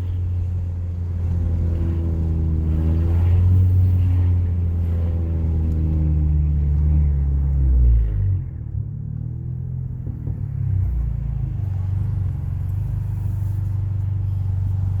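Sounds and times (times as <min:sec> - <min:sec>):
car engine rumbling idle: 0:00.0 - 0:15.0.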